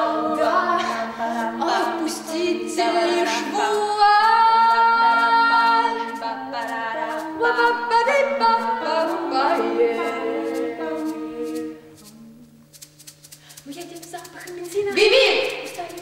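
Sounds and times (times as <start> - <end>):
vocal ensemble singing chords: 0.0 - 12.9.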